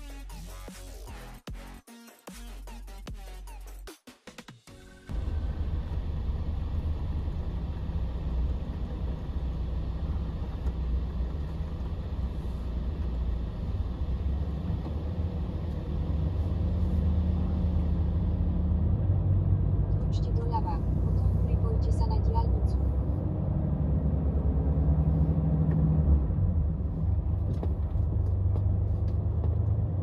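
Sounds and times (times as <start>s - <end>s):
truck diesel engine running: 5.1s - 30.0s.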